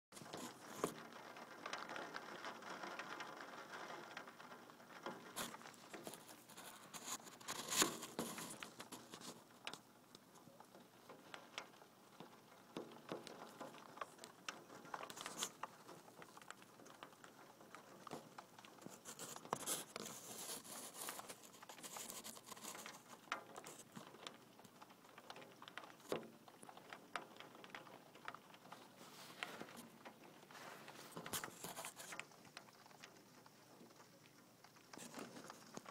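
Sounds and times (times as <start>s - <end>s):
rain pattering: 0.1s - 35.9s.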